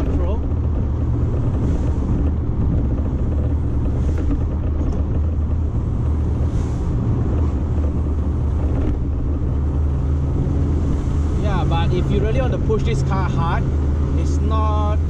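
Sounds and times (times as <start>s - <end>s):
car engine drone from cabin: 0.0s - 15.0s
road noise: 0.0s - 15.0s.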